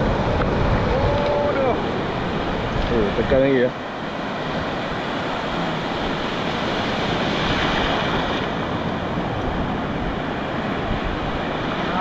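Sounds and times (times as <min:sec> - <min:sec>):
waves breaking in shallows: 0:00.0 - 0:12.0
wind on microphone: 0:00.0 - 0:12.0.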